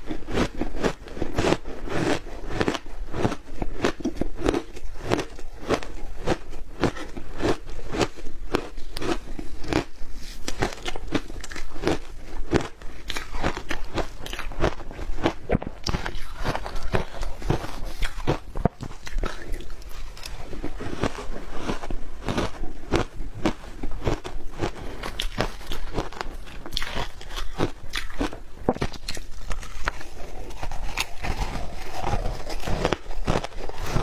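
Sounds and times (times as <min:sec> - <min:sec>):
crunching of frozen ice: 0:00.0 - 0:34.0.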